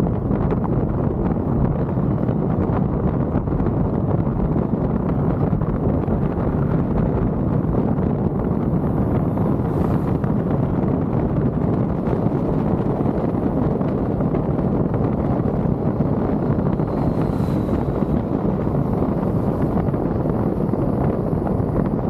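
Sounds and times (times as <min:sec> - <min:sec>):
car wind and road noise: 0:00.0 - 0:22.0
wind buffeting microphone: 0:00.0 - 0:22.0.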